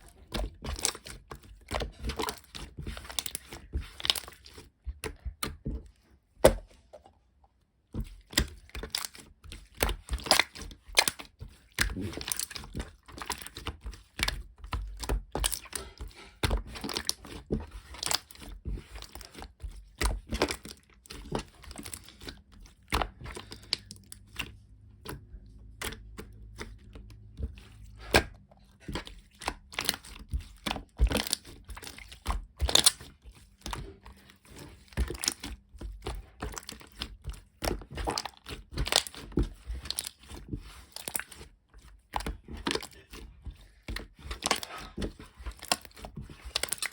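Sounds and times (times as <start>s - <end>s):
crinkling and crackling handling: 0.0s - 46.9s.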